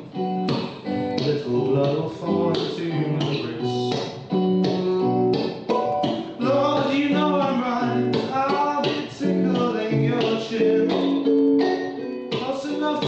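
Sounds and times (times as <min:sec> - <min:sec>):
acoustic chords strummed: 0:00.0 - 0:13.0
person singing: 0:00.0 - 0:13.0.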